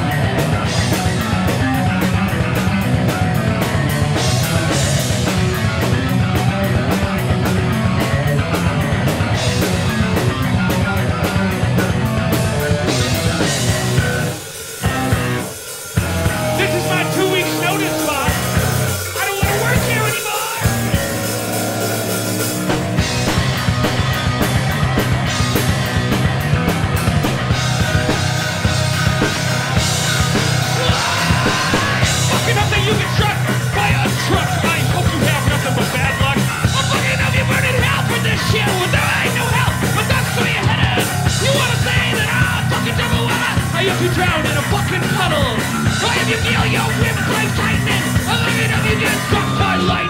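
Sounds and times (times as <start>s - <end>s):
drums: 0.0s - 50.0s
electric guitar: 0.0s - 50.0s
yelled vocals: 0.0s - 50.0s.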